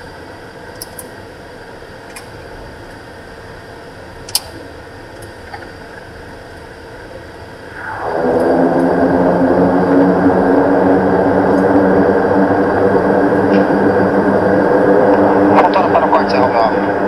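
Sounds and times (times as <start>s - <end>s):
turboprop engines humming: 0.0s - 17.0s.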